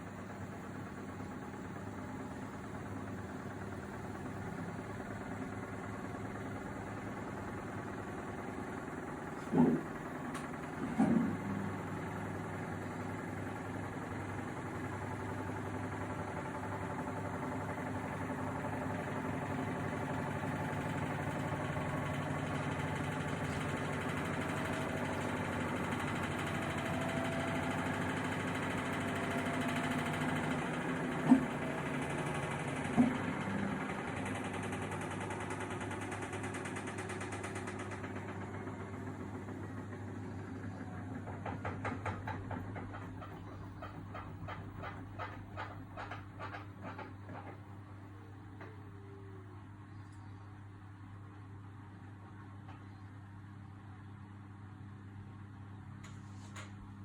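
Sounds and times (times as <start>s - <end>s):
washing machine drum spinning: 0.2s - 48.9s.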